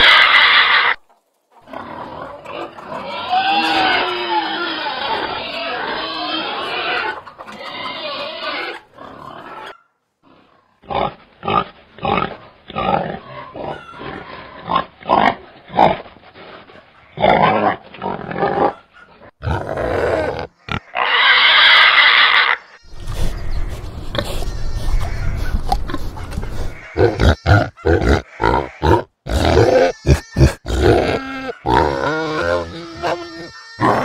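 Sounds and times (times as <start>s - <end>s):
pig grunting: 1.6s - 34.0s.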